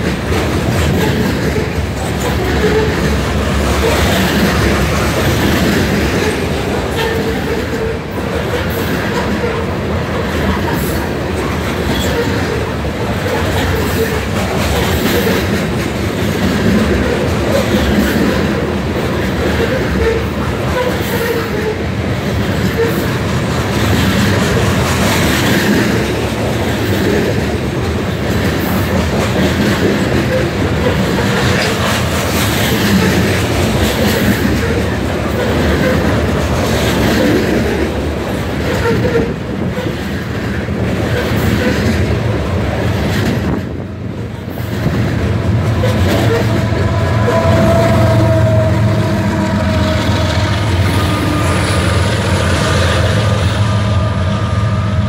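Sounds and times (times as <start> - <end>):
wheels clacking over rail joints: 0.0 - 53.4
diesel locomotives running: 0.0 - 55.0
hopper cars rumbling past: 0.0 - 55.0.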